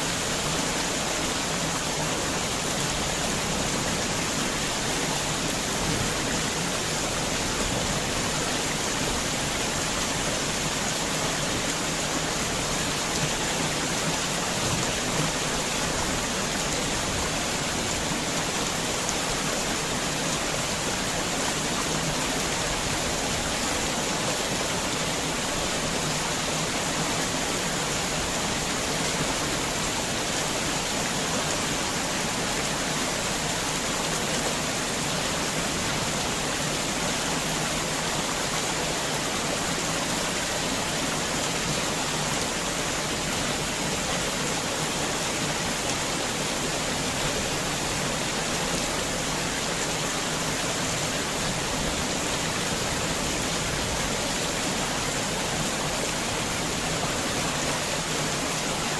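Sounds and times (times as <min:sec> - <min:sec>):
heavy rain: 0:00.0 - 0:58.9.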